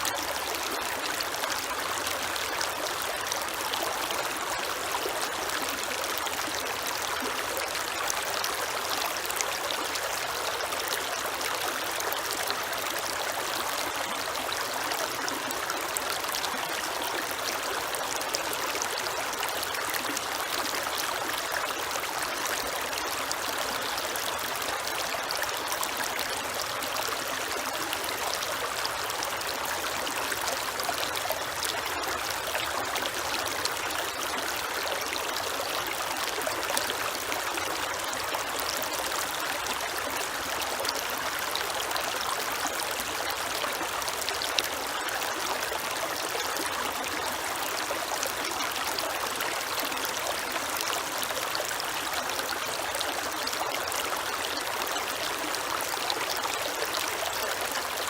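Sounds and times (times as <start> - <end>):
creek water flowing over stones: 0.0 - 58.0.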